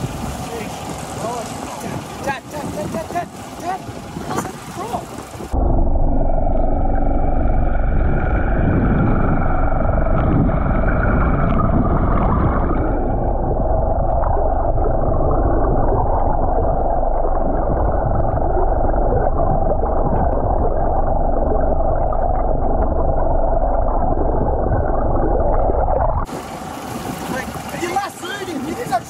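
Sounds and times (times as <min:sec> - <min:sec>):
muffled underwater boat engine drone: 0:00.0 - 0:02.6, 0:05.4 - 0:28.8
water and bubbles gurgling: 0:00.0 - 0:29.0.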